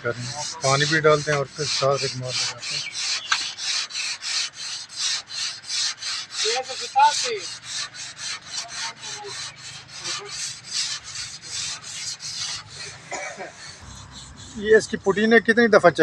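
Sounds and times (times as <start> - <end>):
sandpaper rubbing on car body: 0.0 - 15.6.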